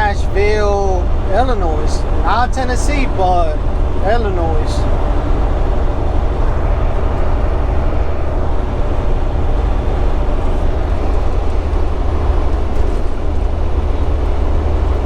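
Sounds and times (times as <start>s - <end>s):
diesel truck engine drone: 0.0s - 15.0s
road noise: 0.0s - 15.0s.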